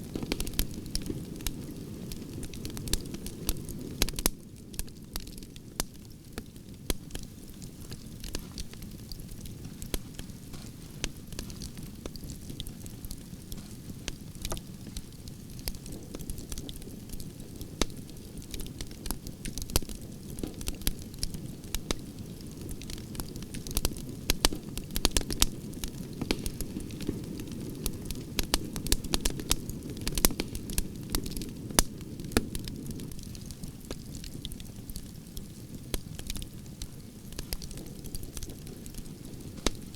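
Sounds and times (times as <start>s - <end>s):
burning wood crackling and popping: 0.0s - 39.9s
campfire flames rumbling: 0.0s - 39.9s.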